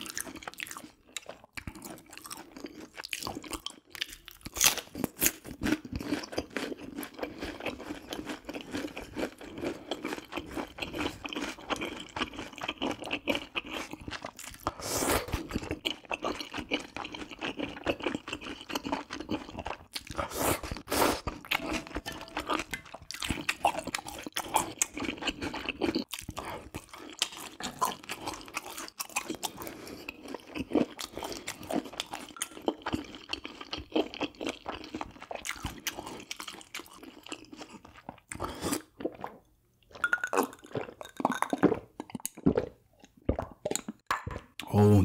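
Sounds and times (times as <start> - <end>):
close chewing: 0.0 - 39.4.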